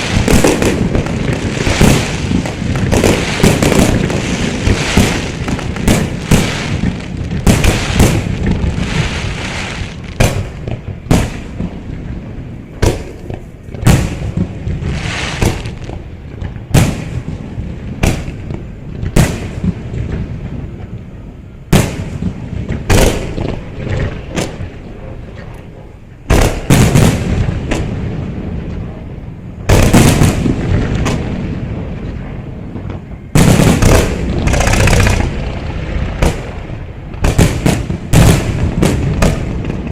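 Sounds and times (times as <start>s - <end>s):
firework shells booming: 0.0s - 21.0s, 21.7s - 25.6s, 26.2s - 39.9s
firework crackling: 0.0s - 39.9s.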